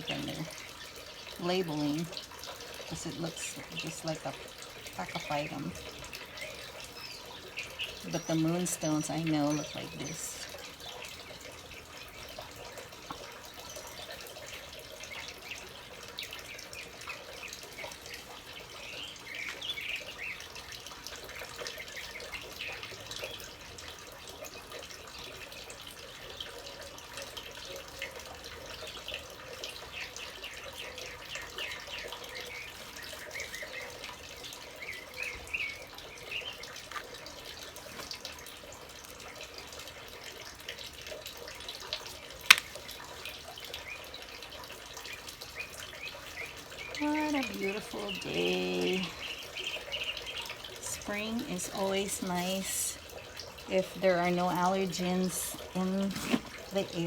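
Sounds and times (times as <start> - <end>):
small birds chirping: 0.0 - 26.7, 27.8 - 40.2, 42.1 - 57.0.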